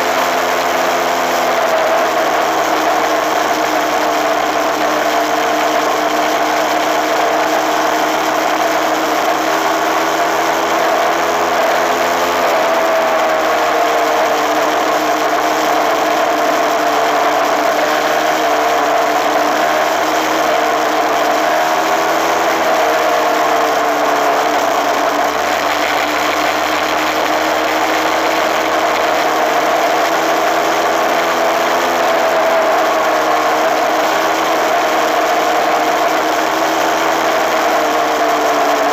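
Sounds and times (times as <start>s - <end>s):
two-stroke motorcycle engine: 0.0s - 38.9s.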